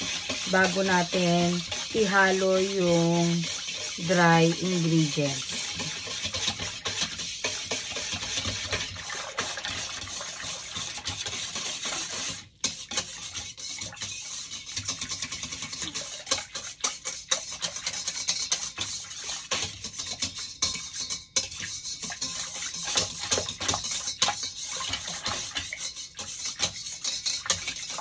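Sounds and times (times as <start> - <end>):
whisk scraping metal bowl: 0.0 - 28.0
whisk swishing water: 0.0 - 28.0.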